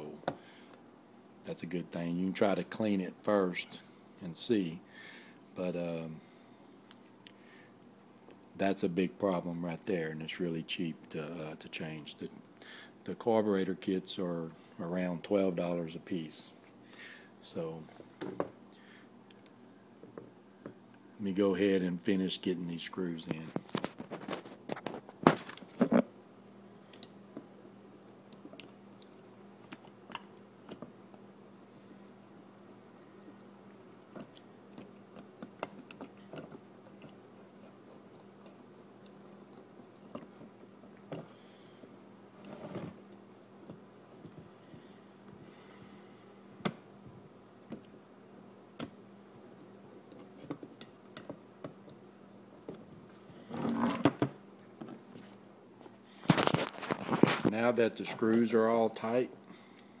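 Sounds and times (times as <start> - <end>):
faint steady hum: 0.0 - 60.0.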